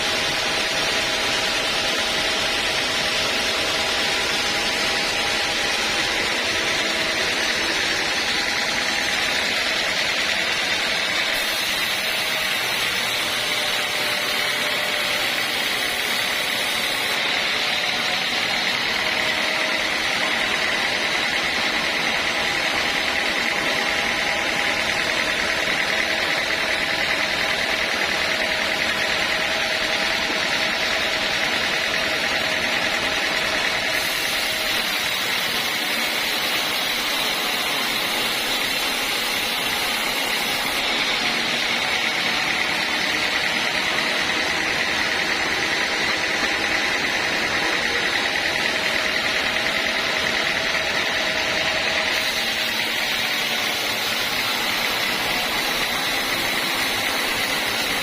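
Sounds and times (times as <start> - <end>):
band sawmill whining: 0.0 - 58.0.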